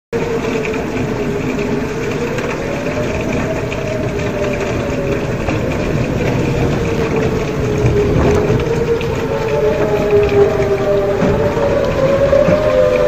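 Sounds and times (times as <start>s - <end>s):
strong wind on microphone: 0.2s - 13.0s
warning siren wailing: 0.2s - 13.0s.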